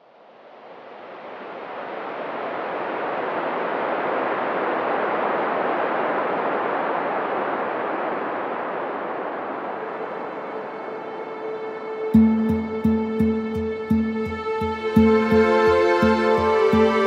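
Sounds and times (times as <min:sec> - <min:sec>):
steady rushing noise: 0:00.1 - 0:17.0.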